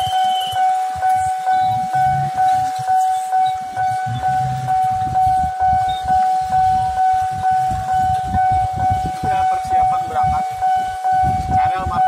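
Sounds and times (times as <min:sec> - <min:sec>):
level crossing bell ringing: 0:00.0 - 0:11.3
engines rumbling: 0:00.0 - 0:12.0.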